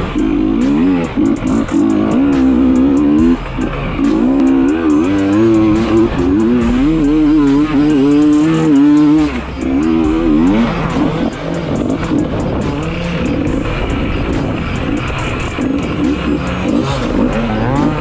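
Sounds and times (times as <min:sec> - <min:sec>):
background music with bass: 0:00.0 - 0:18.0
dirt bike engine revving: 0:00.0 - 0:18.0.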